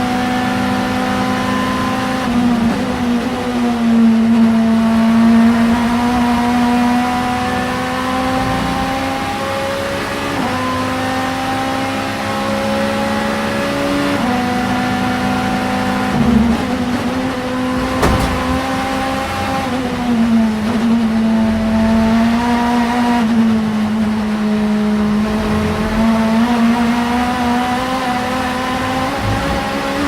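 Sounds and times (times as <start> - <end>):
race car engine at high revs: 0.0 - 30.0.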